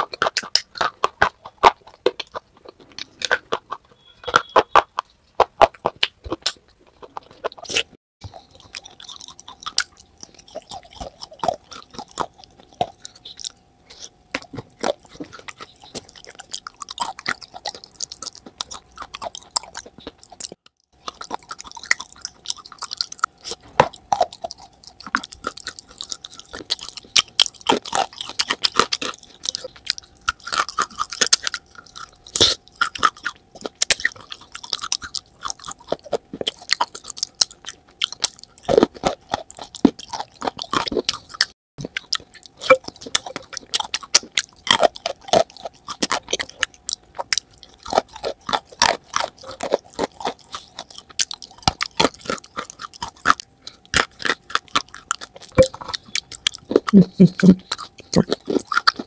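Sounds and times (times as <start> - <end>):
person crunching and chewing clay: 0.0 - 59.0.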